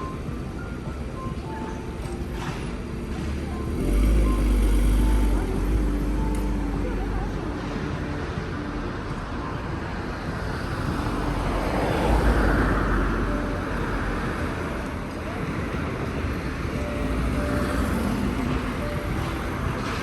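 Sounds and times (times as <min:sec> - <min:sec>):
crowd hubbub: 0:00.0 - 0:20.0
traffic noise: 0:00.0 - 0:20.0.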